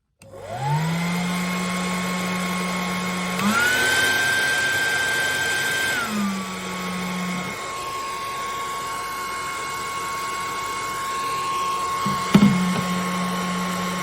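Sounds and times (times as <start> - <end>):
hair dryer running: 0.2 - 14.0.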